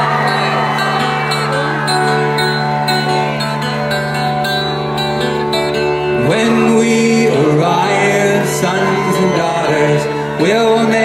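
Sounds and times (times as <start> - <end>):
gliding wavering melodic line: 0.0 - 9.4
acoustic guitar: 0.0 - 11.0.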